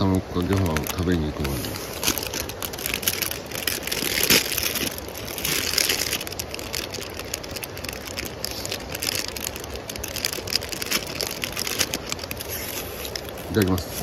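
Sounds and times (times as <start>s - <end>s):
kettle hissing and crackling: 0.0s - 14.0s.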